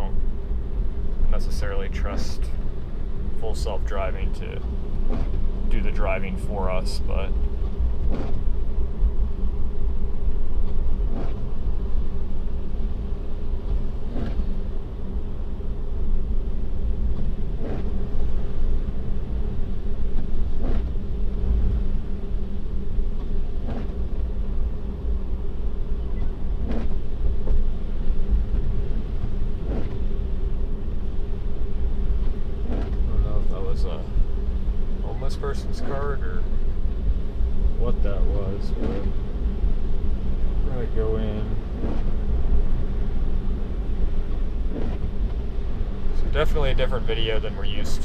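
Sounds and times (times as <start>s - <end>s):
road and tyre rumble: 0.0s - 48.0s
steady hum: 0.0s - 48.0s.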